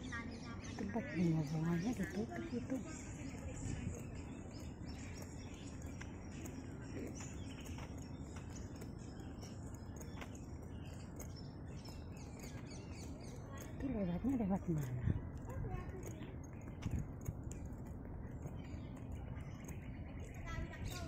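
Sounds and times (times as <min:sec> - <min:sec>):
small birds chirping: 0:00.0 - 0:21.0
steady low rumble: 0:00.0 - 0:21.0.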